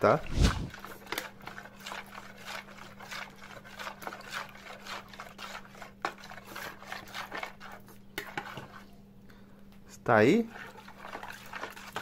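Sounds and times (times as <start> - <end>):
spoon stirring liquid in bowl: 0.0 - 9.0, 10.2 - 12.0
faint steady hum: 0.0 - 12.0.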